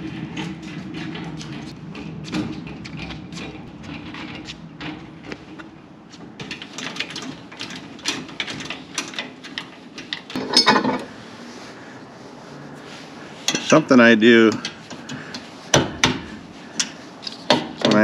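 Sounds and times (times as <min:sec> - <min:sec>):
trailer coupler clicking and clanking: 0:00.0 - 0:11.1, 0:13.4 - 0:18.0.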